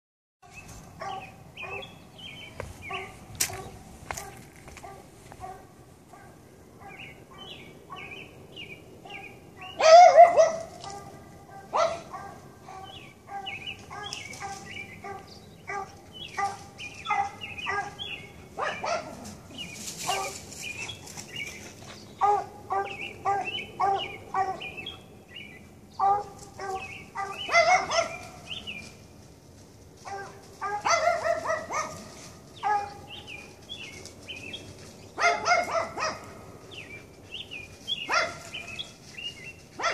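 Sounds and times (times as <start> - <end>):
animal barks and calls: 1.0 - 8.3, 9.0 - 28.8, 30.0 - 39.9.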